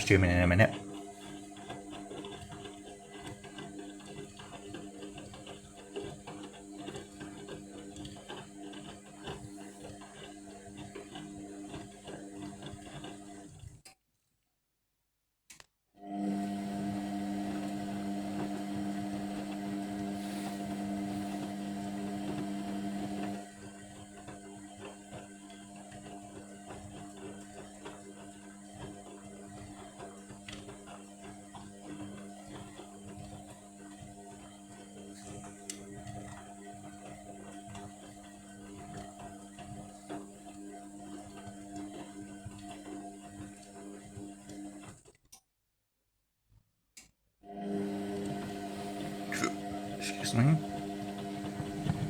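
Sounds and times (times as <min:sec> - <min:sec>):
washing machine churning: 0:00.0 - 0:13.6, 0:16.0 - 0:45.0, 0:47.5 - 0:52.0
washing machine electrical hum: 0:00.0 - 0:13.6, 0:16.0 - 0:45.0, 0:47.5 - 0:52.0.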